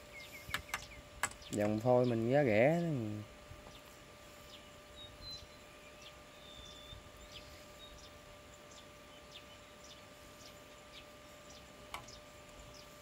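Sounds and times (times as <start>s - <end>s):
birds chirping faintly: 0.0s - 13.0s
faint steady hum: 0.0s - 13.0s.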